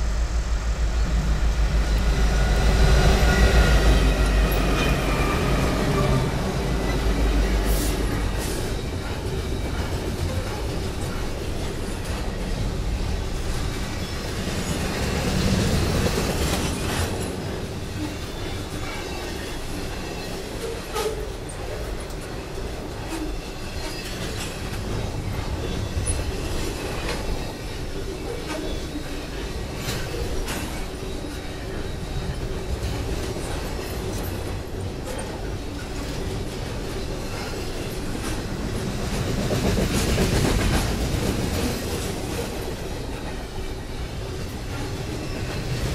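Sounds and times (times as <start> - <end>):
freight train wheels rumbling on rails: 0.0 - 45.9.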